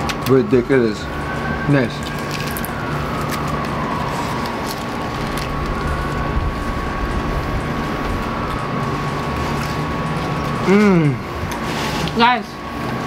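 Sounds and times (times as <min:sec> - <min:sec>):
constant high whine: 0:00.0 - 0:13.0
machine hum and rumble: 0:00.0 - 0:13.0
faint drifting whine: 0:00.5 - 0:11.4.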